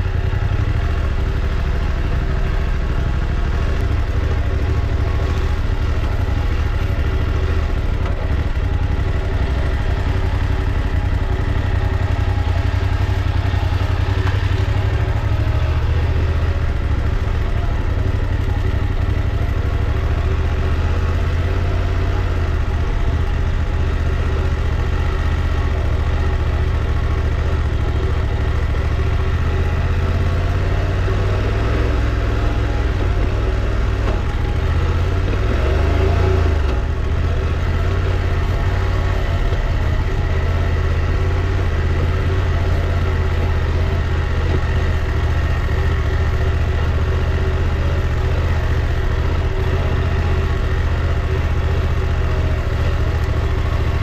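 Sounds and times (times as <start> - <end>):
motorcycle engine running: 0.0 - 54.0
road and wind noise: 0.0 - 54.0.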